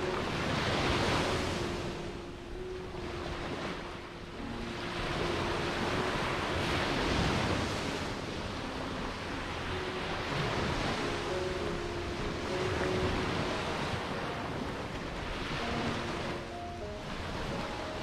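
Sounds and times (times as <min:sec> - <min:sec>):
waves breaking on a beach: 0:00.0 - 0:18.0.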